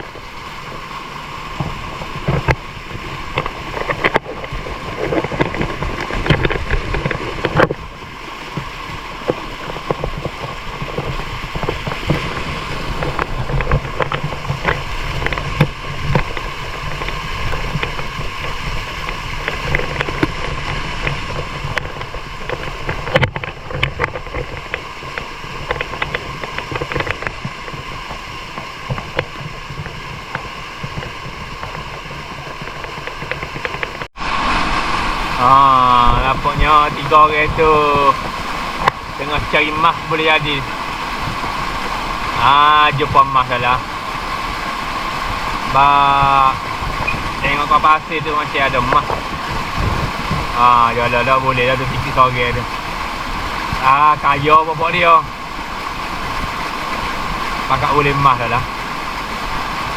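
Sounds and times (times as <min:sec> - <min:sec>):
river water rushing: 0:00.0 - 0:59.9
water splashes and knocks: 0:00.0 - 0:59.9.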